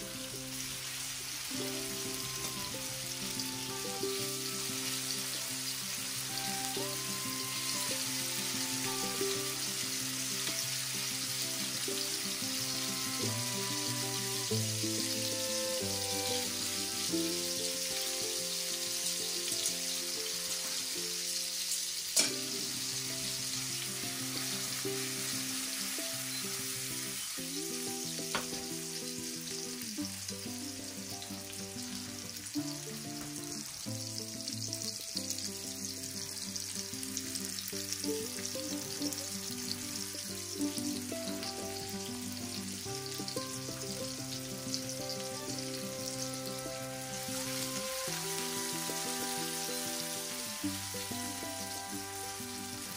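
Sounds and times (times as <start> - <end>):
fish sizzling in a frying pan: 0.0 - 52.9
soft background music: 0.0 - 52.9.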